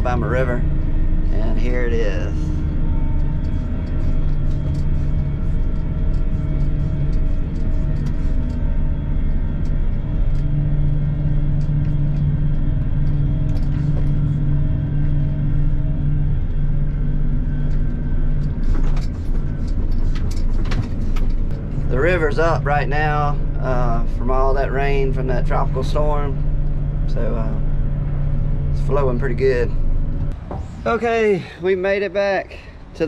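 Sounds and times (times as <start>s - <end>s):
combine harvester engine humming: 0.0s - 33.0s
road rumble: 0.0s - 33.0s.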